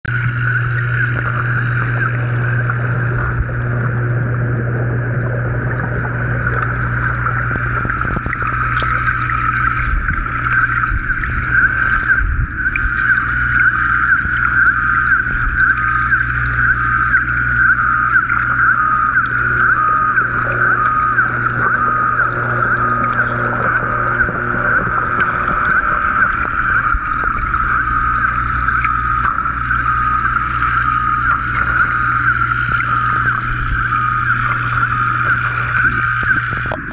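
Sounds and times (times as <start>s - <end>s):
steady low hum: 0.0s - 36.9s
underwater air bubbles rushing: 0.0s - 36.9s.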